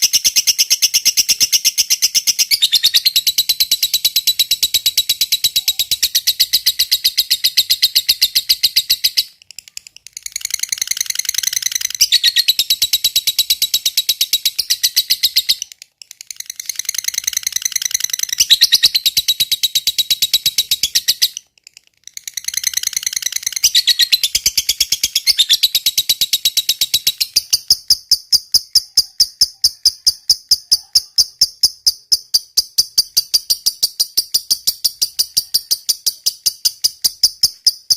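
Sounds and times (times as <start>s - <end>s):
lovebird chattering trill: 0.0s - 37.9s.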